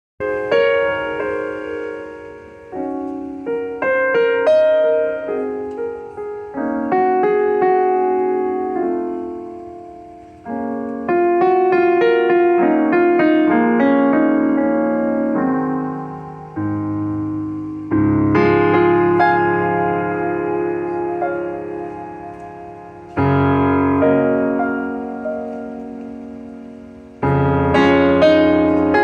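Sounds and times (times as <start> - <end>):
piano playing processional music: 0.2 - 29.0.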